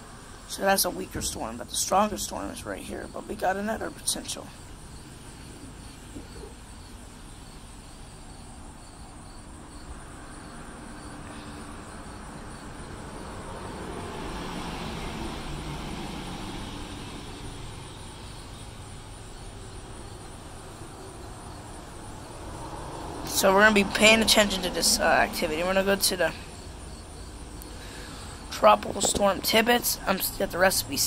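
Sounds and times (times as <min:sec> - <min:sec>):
vehicle passing: 0:04.4 - 0:31.0.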